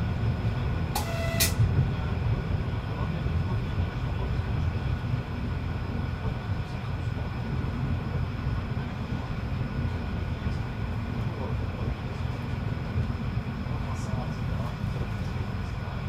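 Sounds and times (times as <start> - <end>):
diesel railcar engine rumbling: 0.0 - 16.0.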